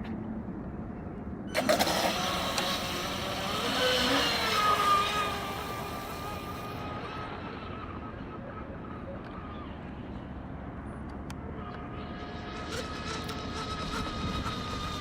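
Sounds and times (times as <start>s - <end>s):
speedboat motor whine: 1.4s - 15.0s.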